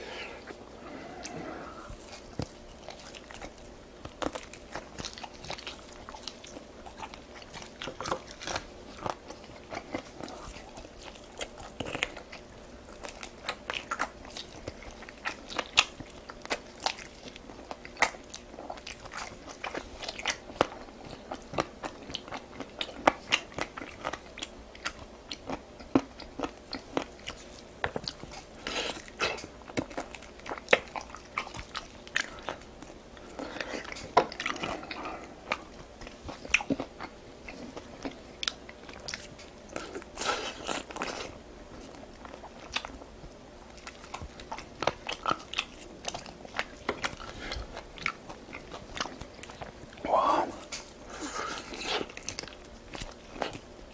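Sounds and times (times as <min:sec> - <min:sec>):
person chewing and biting food: 0:00.0 - 0:53.9.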